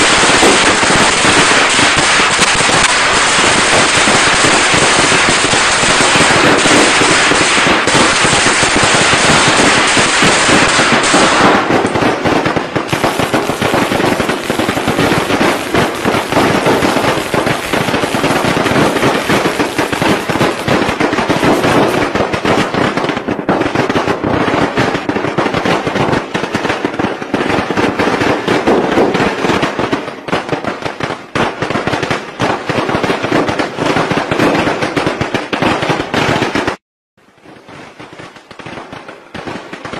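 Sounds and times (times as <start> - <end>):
firecrackers banging: 0.0 - 36.8.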